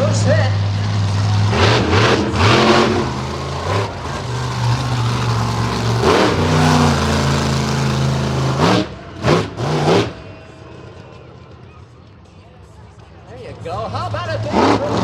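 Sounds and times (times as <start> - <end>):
monster truck engine revving: 0.0 - 11.7, 13.7 - 15.0.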